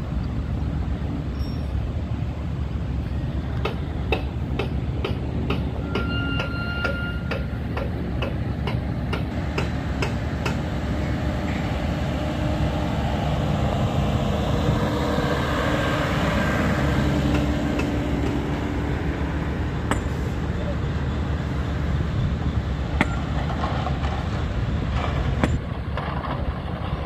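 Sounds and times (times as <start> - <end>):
excavator engines running: 0.0 - 27.0.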